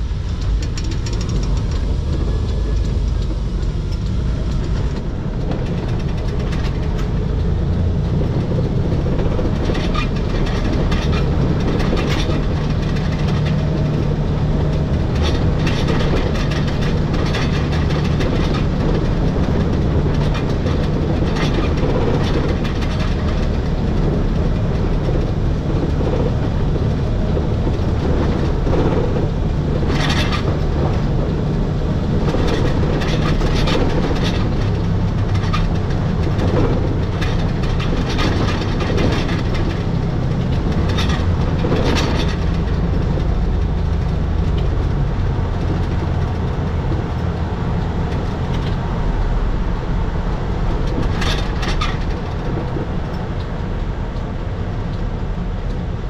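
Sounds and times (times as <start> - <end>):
electric train low drone: 0.0 - 56.0
wheels clicking on track: 0.0 - 56.0.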